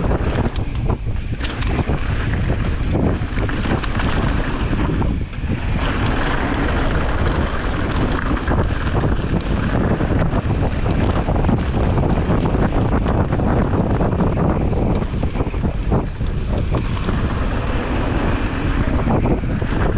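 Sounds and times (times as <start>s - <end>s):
low rumble: 0.0s - 19.9s
wind buffeting microphone: 0.0s - 19.9s.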